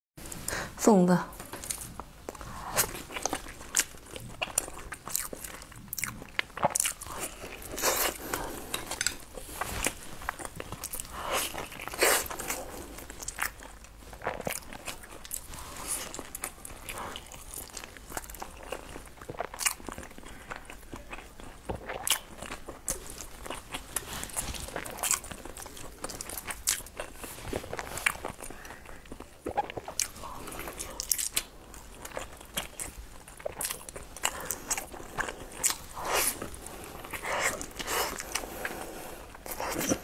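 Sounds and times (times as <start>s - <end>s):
chewing and biting: 1.5s - 40.0s.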